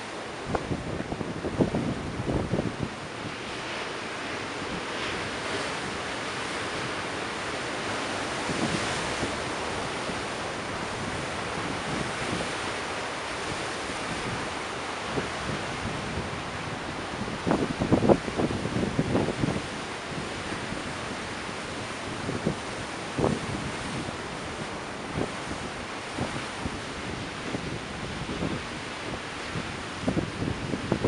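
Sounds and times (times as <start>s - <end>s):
wind buffeting microphone: 0.0s - 3.6s, 4.5s - 31.0s
ocean surf breaking: 0.0s - 31.0s.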